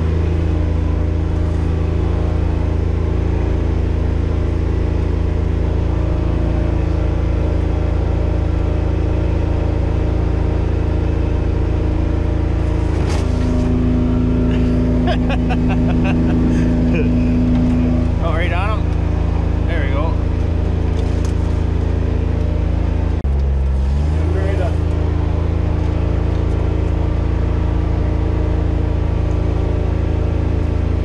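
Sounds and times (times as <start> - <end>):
utility vehicle engine running: 0.0 - 31.0.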